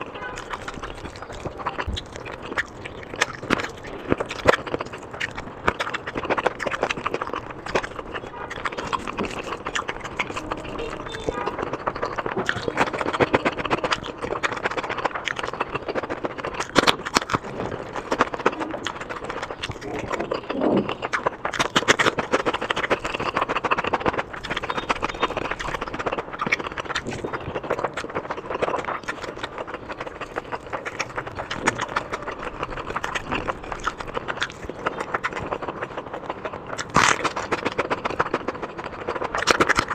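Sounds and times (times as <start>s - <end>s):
small clicks and crackles: 0.0s - 39.9s
wet chewing and mouth smacking: 0.0s - 39.9s.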